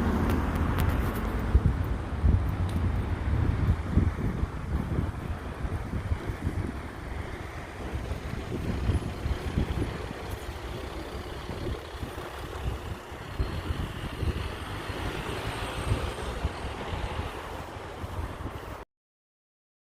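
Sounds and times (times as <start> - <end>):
wind on microphone: 0.0 - 18.8
traffic road noise: 0.0 - 18.9.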